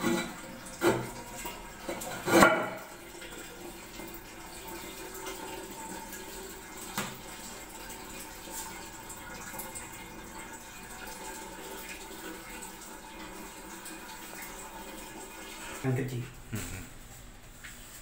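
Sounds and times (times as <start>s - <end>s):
water hissing into cistern: 0.0s - 16.8s.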